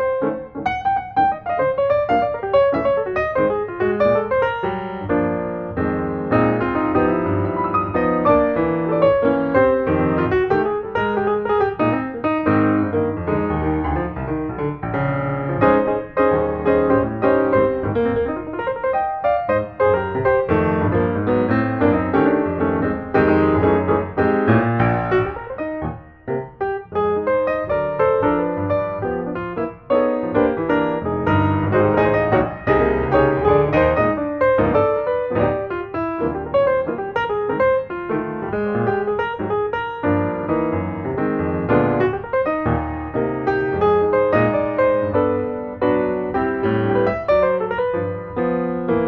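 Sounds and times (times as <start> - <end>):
piano music: 0.0 - 49.0.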